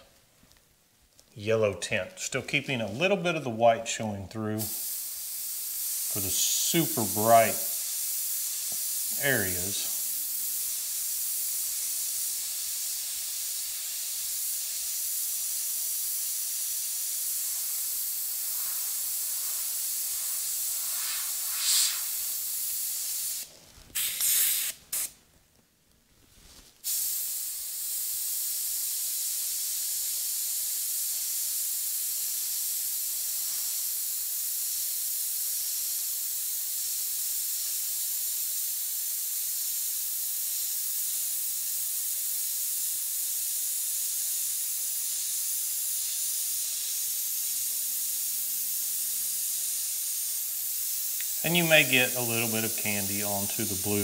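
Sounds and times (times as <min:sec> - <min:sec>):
airbrush hissing: 0:04.5 - 0:25.2, 0:26.8 - 0:54.0.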